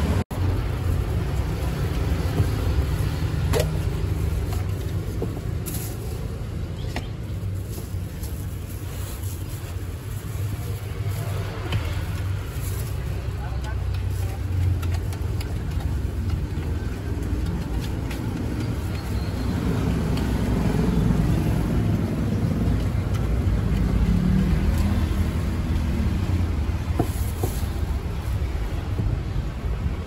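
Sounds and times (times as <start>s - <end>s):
road traffic rumbling: 0.0s - 30.0s.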